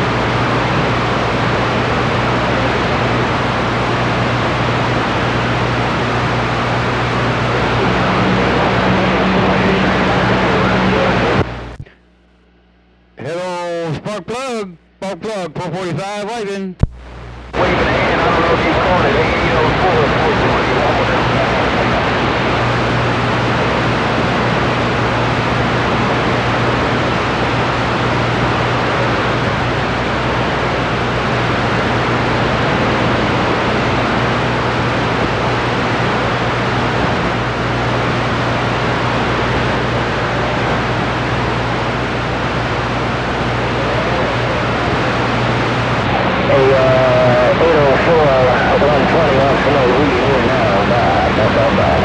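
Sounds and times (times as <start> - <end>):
constant low hum: 0.0 - 52.0
radio static hiss: 0.0 - 52.0.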